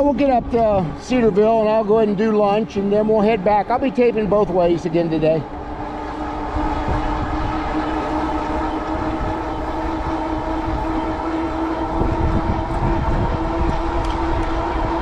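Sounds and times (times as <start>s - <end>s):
electric bike motor hum: 0.0s - 15.0s
wind rumbling on microphone: 0.0s - 15.0s.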